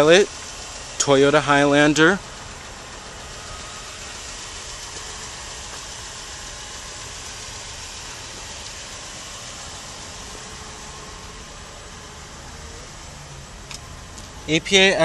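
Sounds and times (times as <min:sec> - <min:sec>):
car engine idling: 0:00.0 - 0:15.0
steady hiss: 0:00.0 - 0:15.0.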